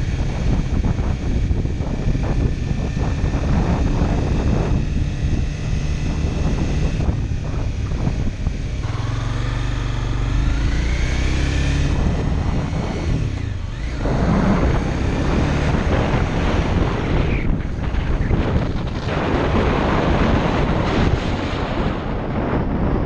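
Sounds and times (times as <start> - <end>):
motorcycle engine accelerating: 0.0 - 23.0
wind buffeting microphone: 0.0 - 23.0.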